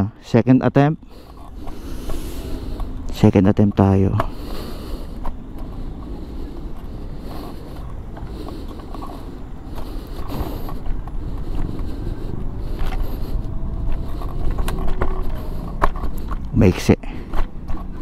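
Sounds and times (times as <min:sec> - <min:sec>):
rumble of wheels and wind: 0:00.0 - 0:18.0
faint motor whine: 0:00.7 - 0:18.0.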